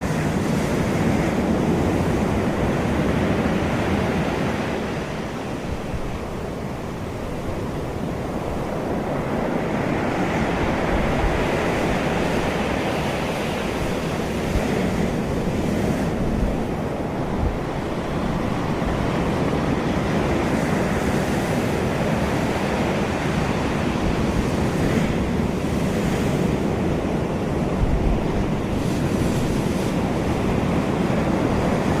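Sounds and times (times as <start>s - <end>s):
sea waves on a beach: 0.0s - 32.0s
wind gusting on microphone: 0.0s - 32.0s.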